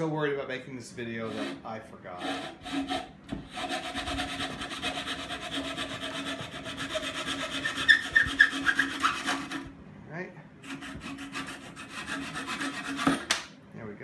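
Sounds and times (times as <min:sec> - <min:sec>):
hand saw cutting wood: 0:01.2 - 0:09.7, 0:10.6 - 0:13.4.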